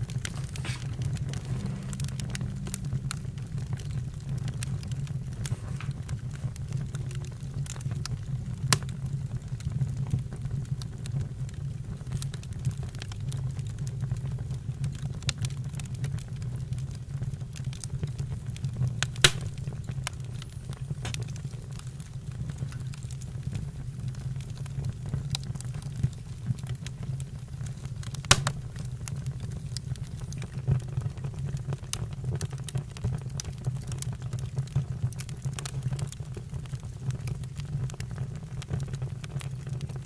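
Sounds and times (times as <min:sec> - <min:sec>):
campfire crackles and pops: 0:00.0 - 0:40.0
low rumble of flames: 0:00.0 - 0:40.0.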